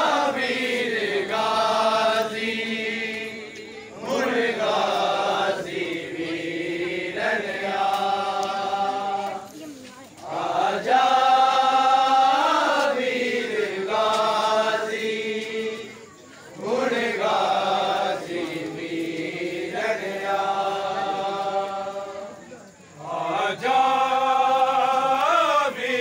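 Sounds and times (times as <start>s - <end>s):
men chanting a mourning lament: 0.0s - 26.0s.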